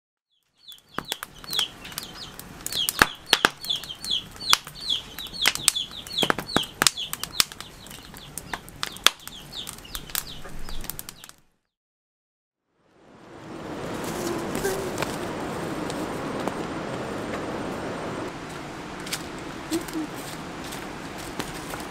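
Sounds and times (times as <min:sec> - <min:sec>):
wood fire crackling: 0:00.5 - 0:11.5, 0:12.9 - 0:21.9
fire popping and snapping: 0:00.6 - 0:11.5, 0:13.6 - 0:21.9.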